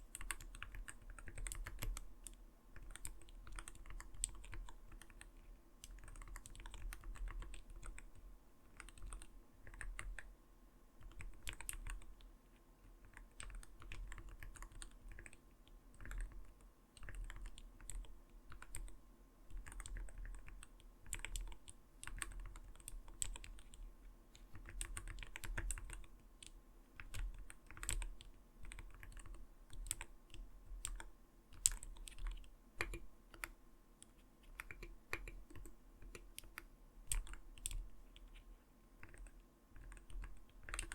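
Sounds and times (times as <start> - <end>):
mechanical keyboard typing: 0.1 - 10.3, 11.0 - 12.2, 13.0 - 18.9, 19.5 - 23.8, 24.4 - 33.6, 34.4 - 38.4, 39.0 - 40.9.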